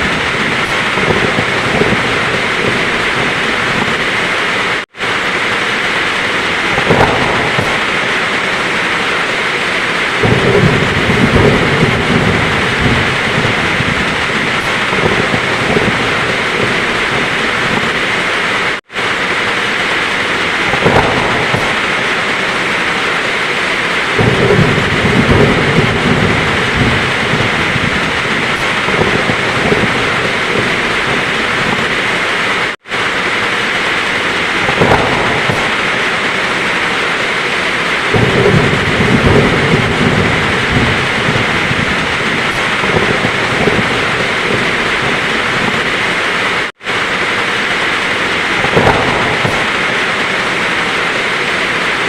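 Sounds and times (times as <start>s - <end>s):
heavy rain falling: 0.0s - 52.0s
thunder rumbling: 0.0s - 52.0s.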